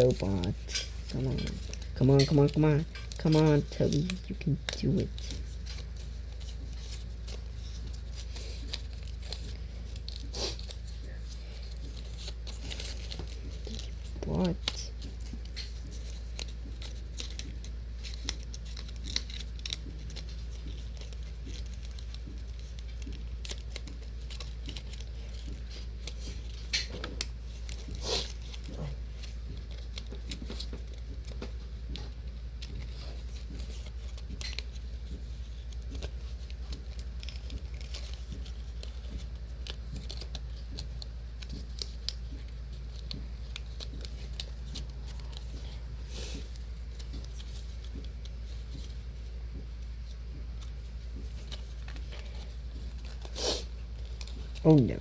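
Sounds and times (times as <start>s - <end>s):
paper and tape rustling: 0.0s - 55.0s.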